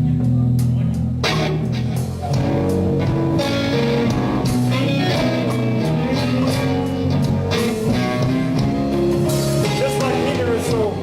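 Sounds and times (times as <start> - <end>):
lead guitar line: 0.0 - 11.0
slow blues band music: 0.0 - 11.0
steady bass: 0.0 - 11.0.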